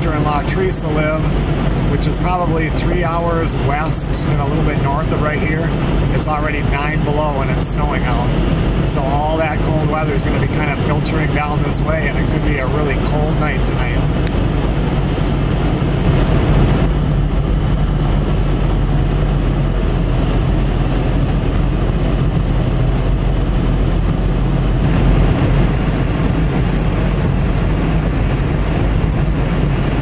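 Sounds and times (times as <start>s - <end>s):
engine drone: 0.0s - 30.0s
tyre and wind noise: 0.0s - 30.0s.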